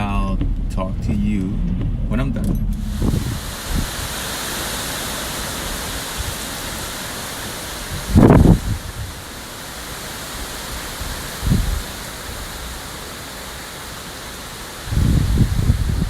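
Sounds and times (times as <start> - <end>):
wind buffeting microphone: 0.0 - 9.4, 10.2 - 12.9, 14.8 - 16.0
rushing outdoor noise: 0.0 - 16.0.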